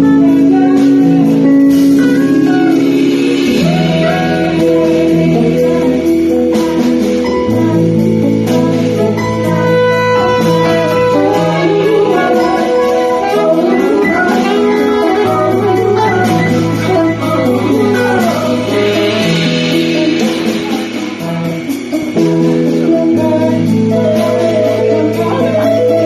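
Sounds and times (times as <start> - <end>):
live band playing: 0.0 - 26.0
melodic lead line: 0.0 - 26.0
sustained bass notes: 0.0 - 26.0.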